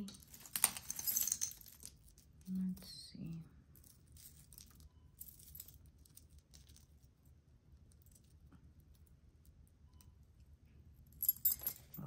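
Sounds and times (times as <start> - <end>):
metal jewelry clinking: 0.0 - 2.9, 3.7 - 10.1, 11.0 - 12.0.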